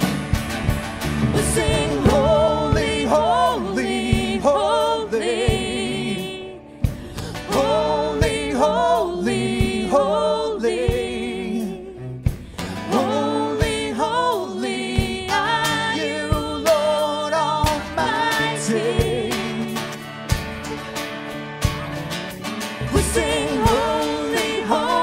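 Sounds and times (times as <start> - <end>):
band with drum beat: 0.0 - 25.0
person singing: 1.3 - 6.6, 7.3 - 20.0, 22.9 - 25.0.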